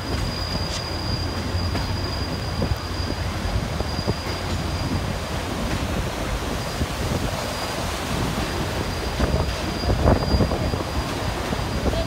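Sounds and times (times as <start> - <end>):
train wheels rumbling on rails: 0.0 - 12.0
wind on the microphone: 1.7 - 12.0.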